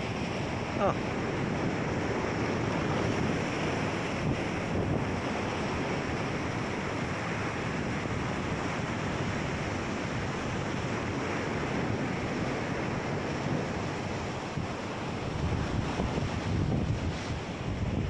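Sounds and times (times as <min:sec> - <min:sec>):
surf on rocky shore: 0:00.0 - 0:18.0
wind buffeting microphone: 0:00.0 - 0:18.0.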